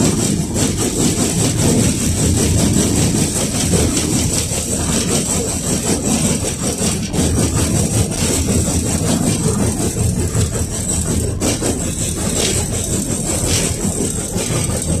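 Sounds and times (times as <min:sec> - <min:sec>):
tram running on track: 0:00.0 - 0:15.0.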